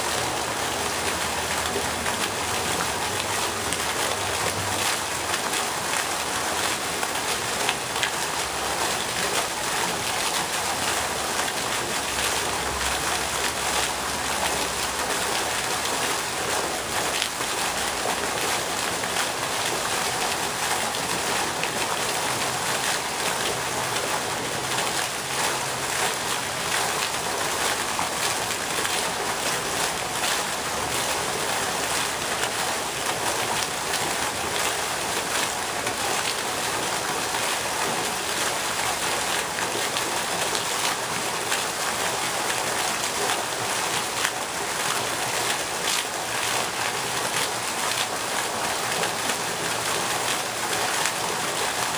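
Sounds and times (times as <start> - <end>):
fountain water splashing: 0.0 - 51.9.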